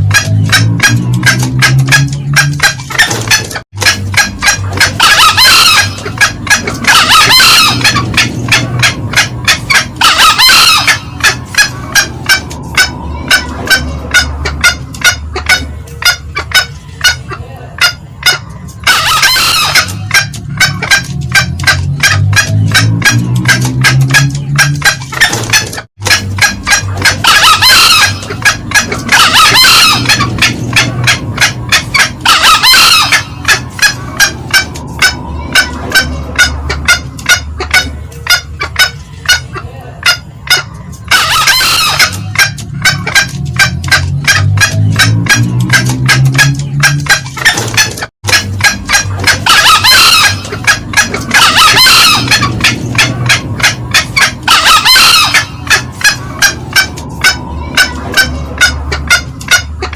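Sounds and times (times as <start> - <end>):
junglefowl hen clucking: 0.0 - 59.9
junglefowl hoarse crows: 0.0 - 59.9
shrill cackling of fowl: 0.0 - 59.9.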